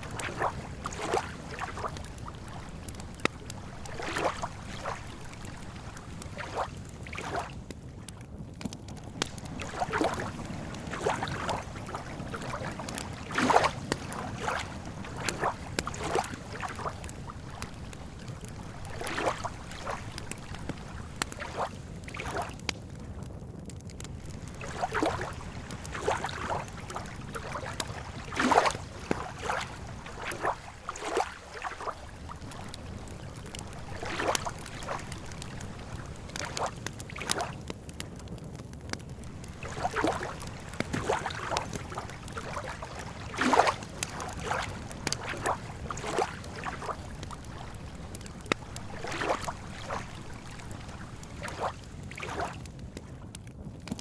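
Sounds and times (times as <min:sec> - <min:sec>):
lake water lapping: 0:00.0 - 0:08.2, 0:08.9 - 0:22.8, 0:24.0 - 0:38.0, 0:39.0 - 0:53.1
campfire wood crackling: 0:00.0 - 0:54.0.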